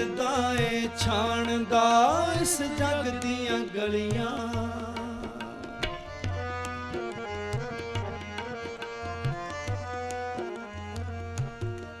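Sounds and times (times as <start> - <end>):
tabla rhythm: 0.0 - 12.0.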